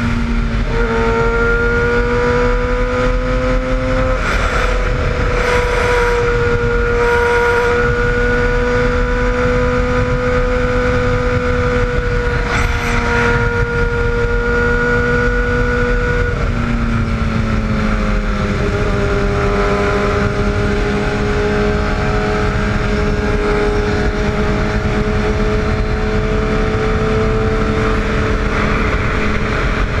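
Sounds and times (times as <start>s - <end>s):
motorcycle engine cruising: 0.0s - 30.0s
wind rush: 0.0s - 30.0s.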